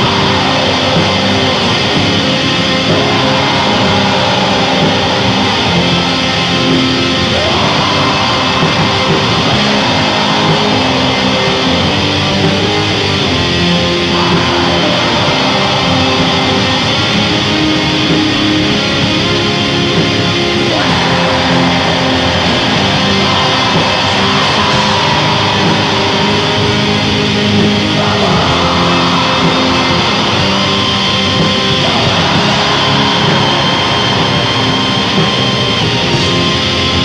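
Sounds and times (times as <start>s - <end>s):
distorted electric guitar: 0.0s - 37.0s
drums: 0.0s - 37.0s.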